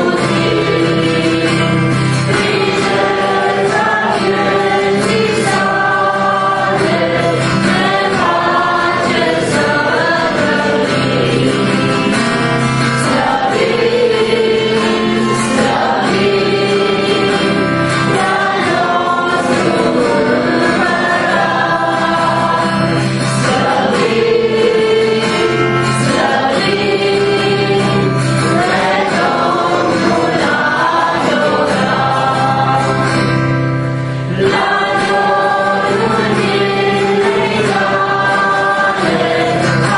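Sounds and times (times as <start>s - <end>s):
people singing together: 0.0s - 39.9s
strummed acoustic guitar: 0.0s - 39.9s.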